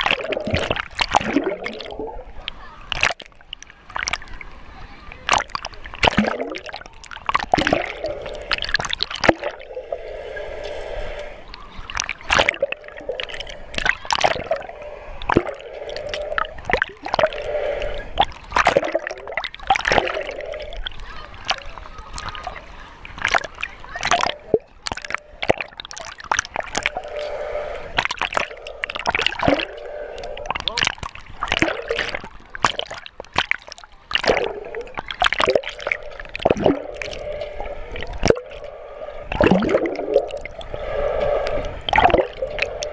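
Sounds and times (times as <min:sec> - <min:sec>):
water splashing and gurgling: 0:00.0 - 0:42.9.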